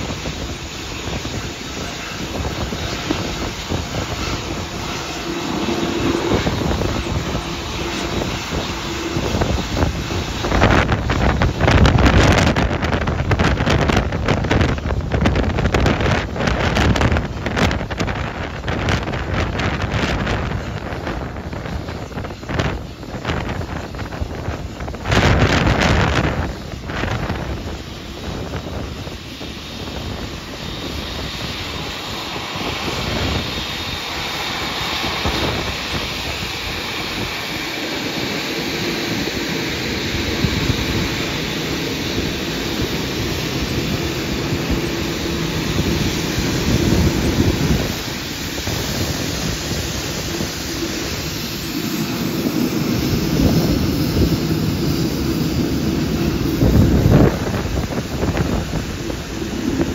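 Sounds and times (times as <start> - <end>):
jet engines whining: 0.0 - 59.9
wind buffeting microphone: 0.0 - 59.9.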